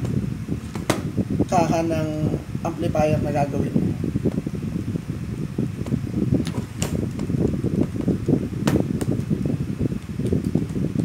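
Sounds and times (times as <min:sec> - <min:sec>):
fan blowing across microphone: 0:00.0 - 0:11.0.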